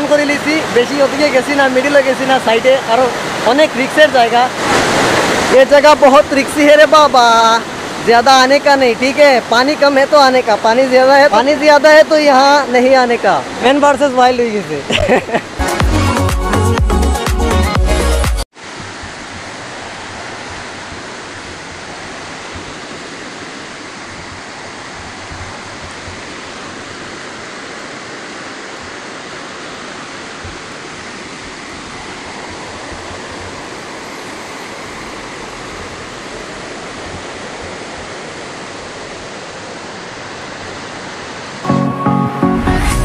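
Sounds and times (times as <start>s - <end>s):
river rushing over rocks: 0.0s - 15.7s, 18.6s - 41.7s.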